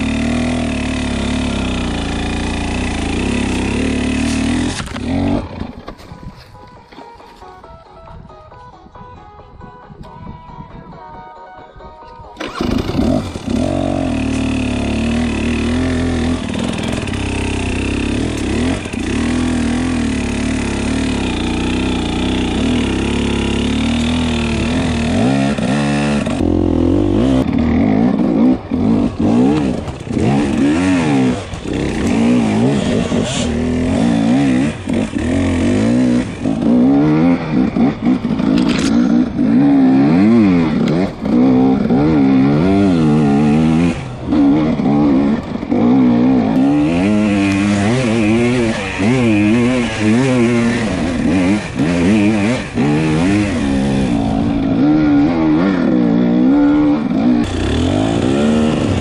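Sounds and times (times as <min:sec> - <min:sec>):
dirt bike engine revving: 0:00.0 - 0:05.8, 0:12.4 - 0:59.0.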